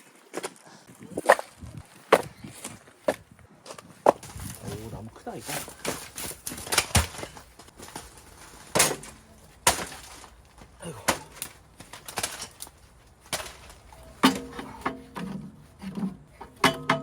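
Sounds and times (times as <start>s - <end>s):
firewood logs knocking together: 1.2s - 17.0s.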